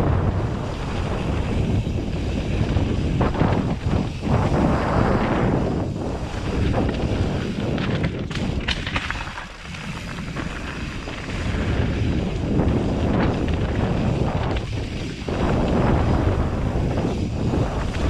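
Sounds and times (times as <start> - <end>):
bike tyres and frame rumbling: 0.0 - 18.0
wind on microphone: 0.0 - 18.0.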